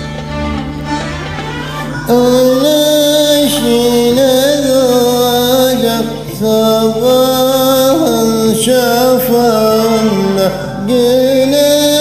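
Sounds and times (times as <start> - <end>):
karaoke backing track: 0.0 - 12.0
man singing: 1.9 - 12.0.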